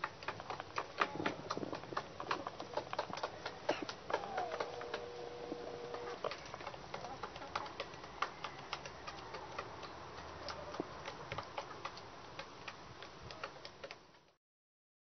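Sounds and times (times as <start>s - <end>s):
chickens pecking on wood: 0.0s - 14.4s.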